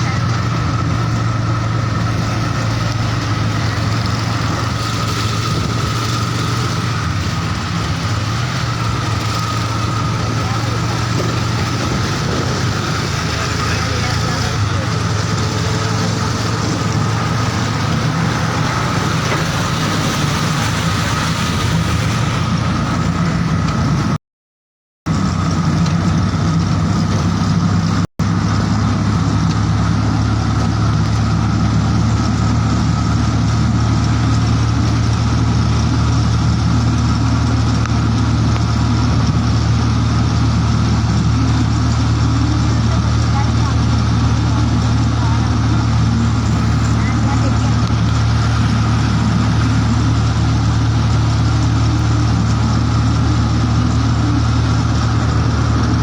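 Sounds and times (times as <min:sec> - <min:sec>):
engine humming steadily: 0:00.0 - 0:24.2, 0:25.1 - 0:56.0.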